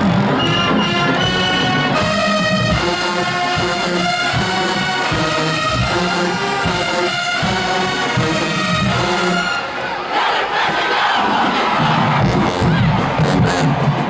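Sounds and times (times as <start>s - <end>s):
drum beats: 0.0s - 9.6s, 10.3s - 14.0s
crowd cheering and shouting: 0.0s - 14.0s
marching band brass chords: 0.0s - 14.0s.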